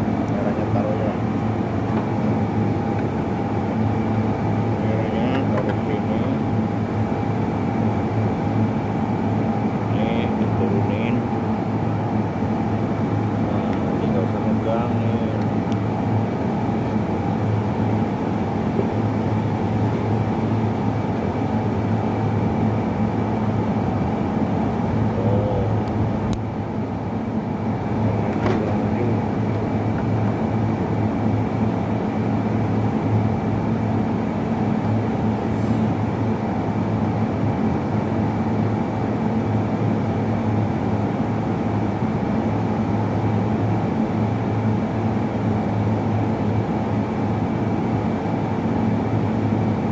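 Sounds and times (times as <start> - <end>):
mechanical drone with high whine: 0.0 - 49.9.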